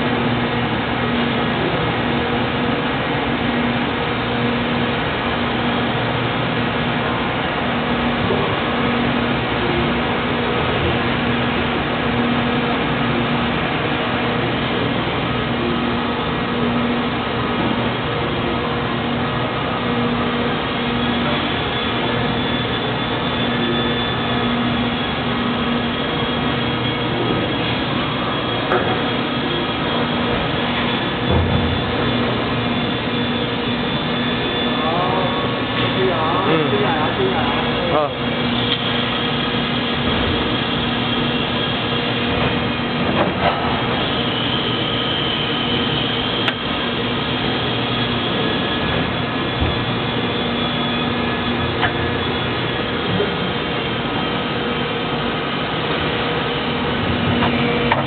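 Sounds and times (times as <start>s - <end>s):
machine drone: 0.0s - 58.0s.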